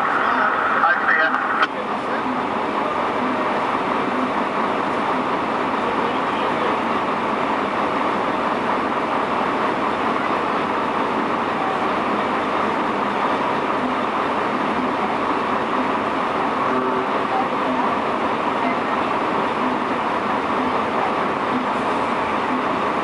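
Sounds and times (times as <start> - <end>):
truck engine and cab noise: 0.0 - 23.0.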